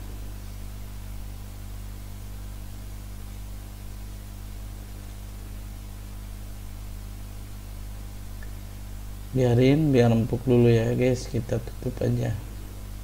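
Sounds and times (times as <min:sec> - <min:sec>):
constant hiss: 0:00.0 - 0:13.0
steady low hum: 0:00.0 - 0:13.0.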